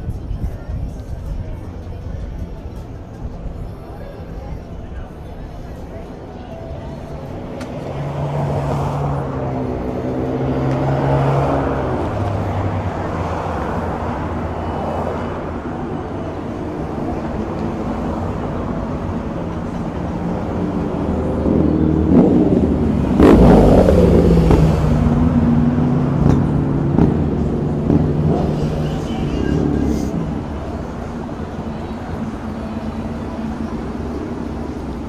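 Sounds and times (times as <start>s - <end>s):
vehicle engines passing: 0.0s - 35.0s.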